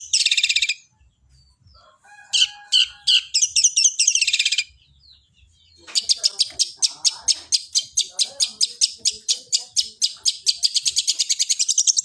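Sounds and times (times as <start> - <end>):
bird singing rapid high chirps: 0.0 - 1.8, 2.4 - 12.0.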